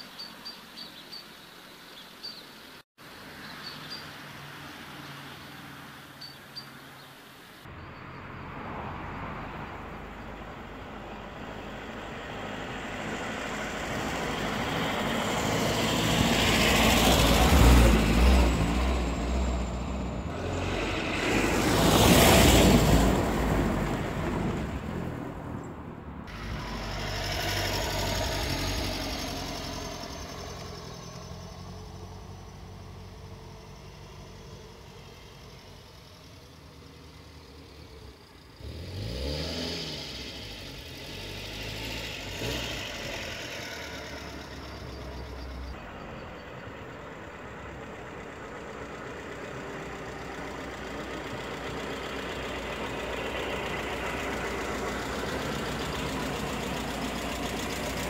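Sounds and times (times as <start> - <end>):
car engine driving by: 7.7 - 58.0
engine revving: 8.4 - 25.3, 26.2 - 45.9, 47.6 - 58.0.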